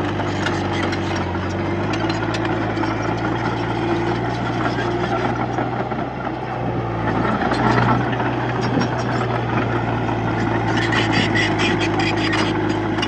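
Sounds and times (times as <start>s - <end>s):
bulldozer diesel engine humming: 0.0s - 13.0s.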